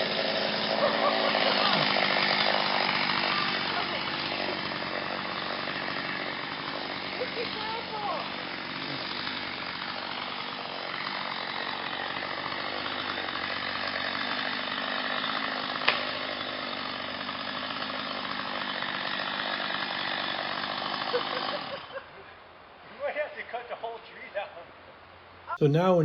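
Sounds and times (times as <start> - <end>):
chainsaw cutting wood: 0.0 - 22.2.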